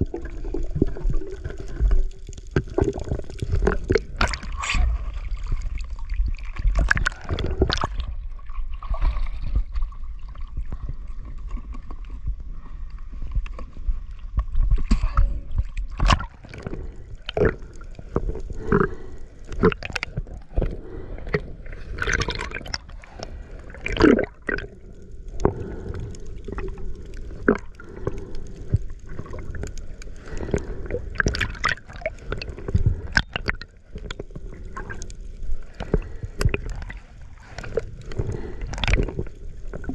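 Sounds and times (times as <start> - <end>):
water gurgling underwater: 0.0 - 12.2, 14.3 - 39.9.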